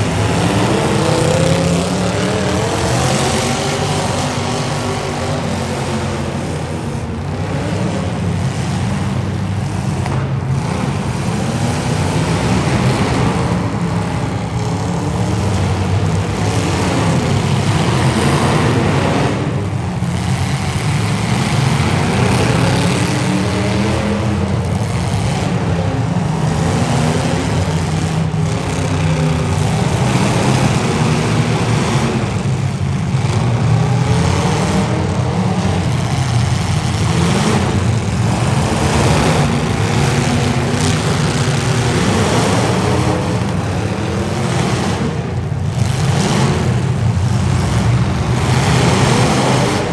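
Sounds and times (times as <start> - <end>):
car engines revving together: 0.0 - 49.9.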